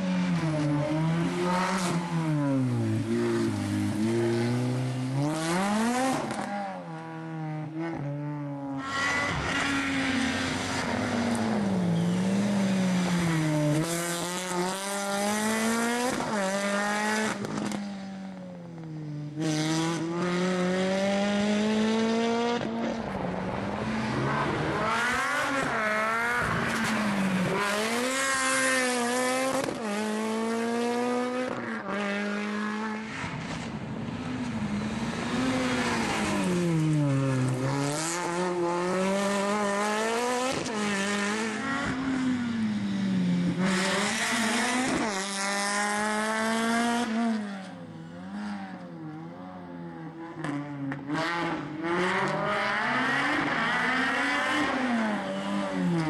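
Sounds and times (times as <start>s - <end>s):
rally car engine revving: 0.0s - 17.9s, 18.7s - 42.8s, 43.5s - 56.0s.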